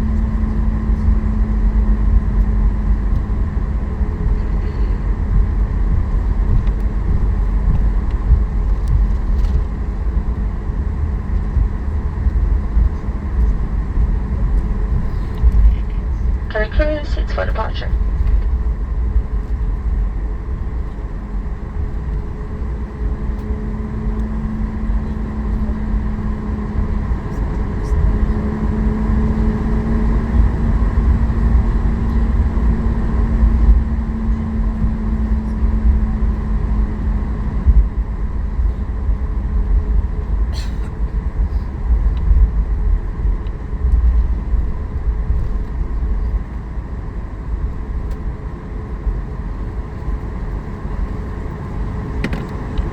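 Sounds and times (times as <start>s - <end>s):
jet engines idling rumble: 0.0s - 52.9s
steady hum tone: 0.0s - 52.9s.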